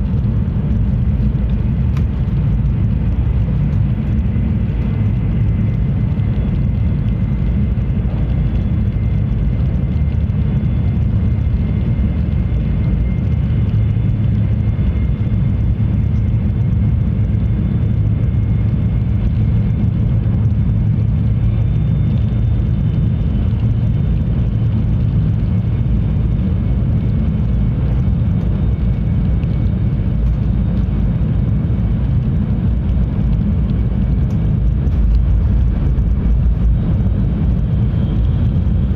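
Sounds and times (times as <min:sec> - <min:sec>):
train low rumble: 0:00.0 - 0:38.9.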